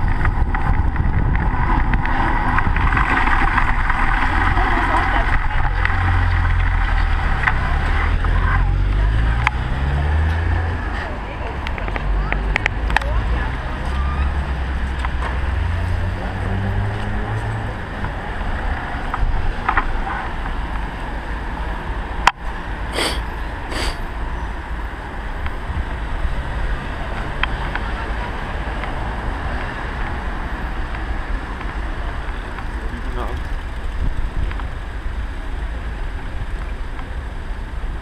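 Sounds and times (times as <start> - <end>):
cars passing on wet road: 0.0 - 38.0.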